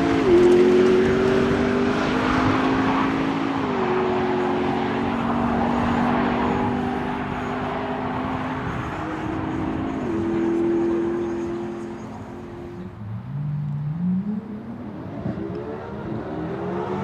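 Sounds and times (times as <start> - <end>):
cars accelerating hard: 0.0 - 17.0.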